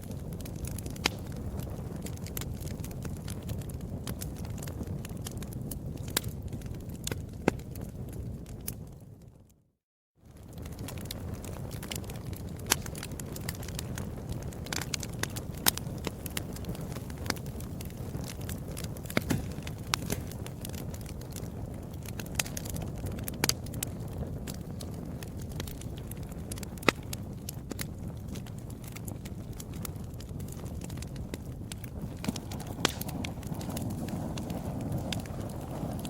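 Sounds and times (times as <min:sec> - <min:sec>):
wood fire crackling and popping: 0:00.0 - 0:09.6, 0:10.2 - 0:36.0.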